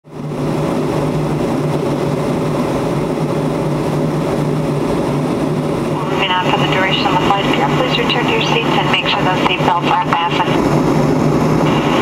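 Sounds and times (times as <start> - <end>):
airliner cabin noise: 0.1 - 12.0.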